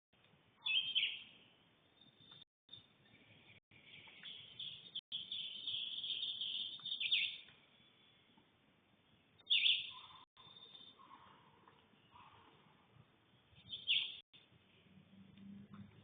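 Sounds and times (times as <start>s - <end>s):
birds chirping and singing: 0.6s - 8.4s, 9.0s - 14.3s.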